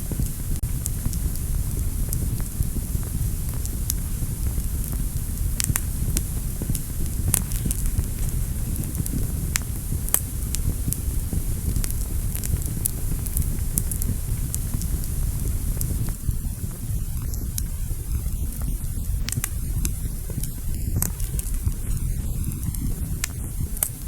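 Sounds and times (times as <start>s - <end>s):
fire burning in fireplace: 0.0s - 24.0s
fire crackles and pops: 0.0s - 24.0s.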